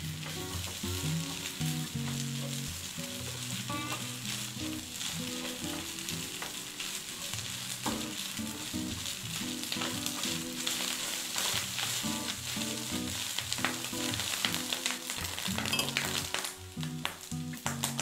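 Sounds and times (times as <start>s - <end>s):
fried rice sizzling in a pan: 0.0s - 18.0s.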